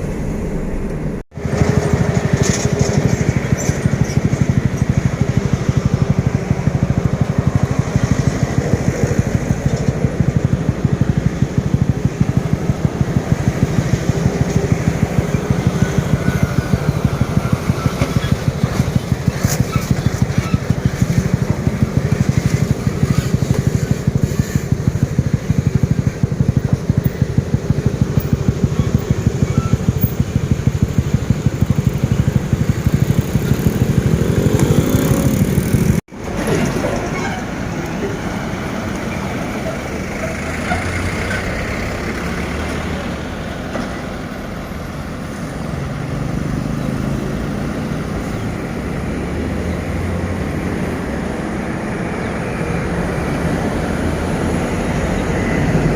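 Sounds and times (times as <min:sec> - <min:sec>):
vehicle engine throbbing: 0:00.0 - 0:55.9.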